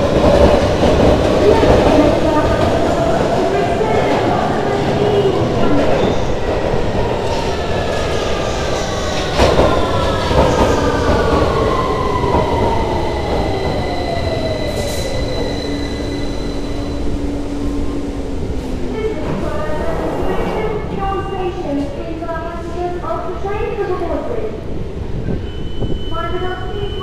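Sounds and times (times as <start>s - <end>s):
train traction whine: 0.0s - 21.9s
train wheels rumbling on rail: 0.0s - 27.0s.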